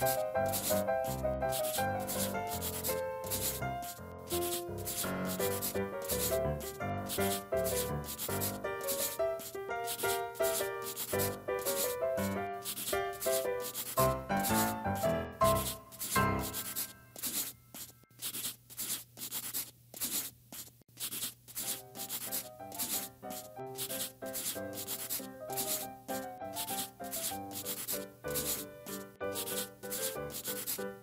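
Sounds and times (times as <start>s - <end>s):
light plucked background music: 0.0s - 17.5s, 21.7s - 31.0s
scratchy scribbling strokes: 0.0s - 31.0s.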